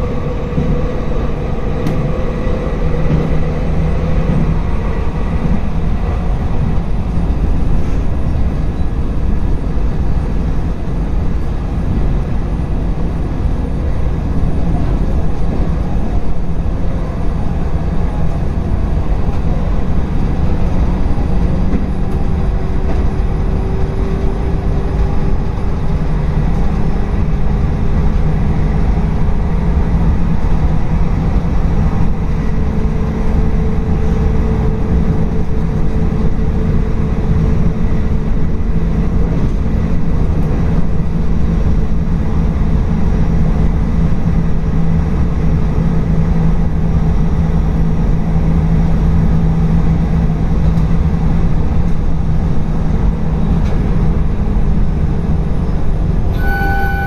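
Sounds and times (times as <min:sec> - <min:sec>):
low train hum: 0:00.0 - 0:57.0
train wheels rumbling on rail: 0:00.0 - 0:57.0.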